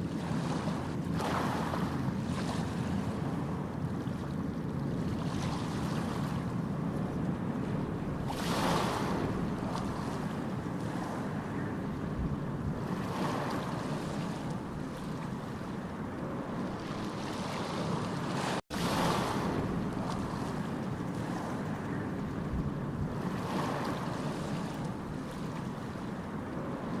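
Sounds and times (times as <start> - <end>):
water rushing and sloshing: 0.0 - 27.0.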